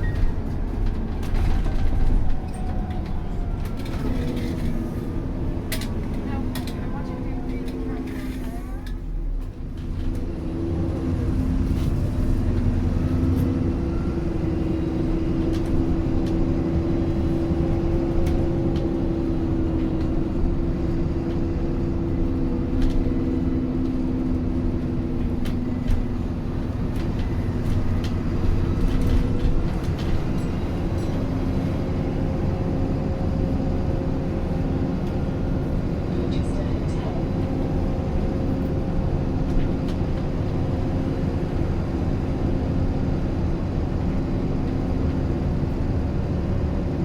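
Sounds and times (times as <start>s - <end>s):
bus engine drone: 0.0s - 47.0s.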